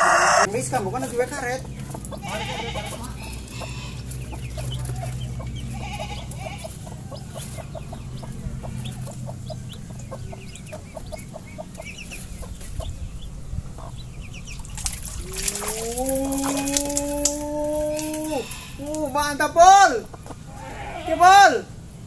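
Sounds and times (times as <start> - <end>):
chickens clucking: 0.0 - 21.4
steady low hum: 0.0 - 22.0.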